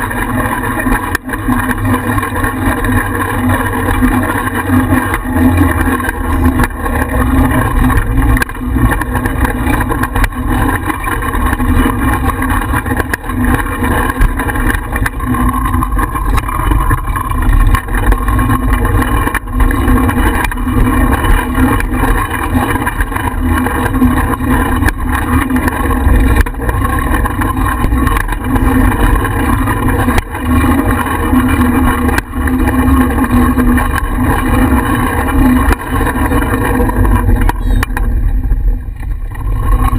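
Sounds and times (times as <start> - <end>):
bicycle knocks and rattles: 0.0 - 39.9
road rumble: 0.0 - 39.9.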